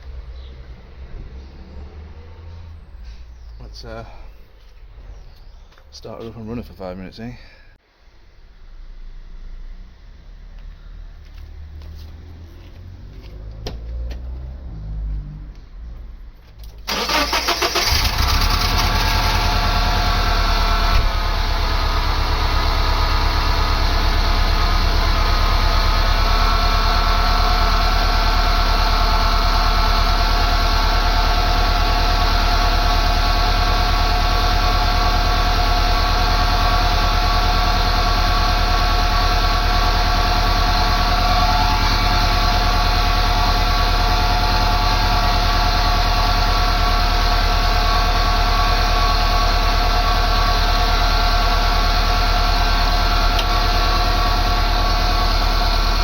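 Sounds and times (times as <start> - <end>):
car engine cranking and idling: 9.2 - 56.0.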